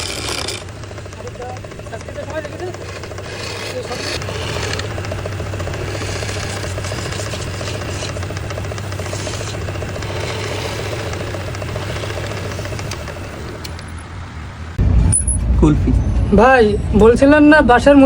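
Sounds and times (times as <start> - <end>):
motor humming and rattling: 0.0 - 15.0.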